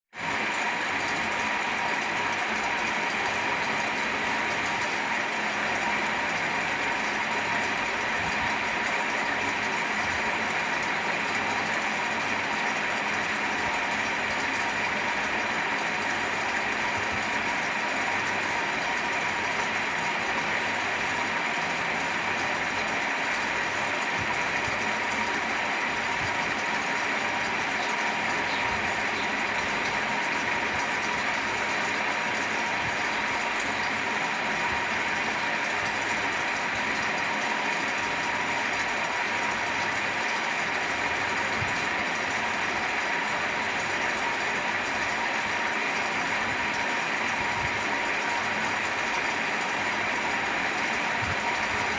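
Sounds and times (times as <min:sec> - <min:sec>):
electric fan running: 0:00.2 - 0:51.9.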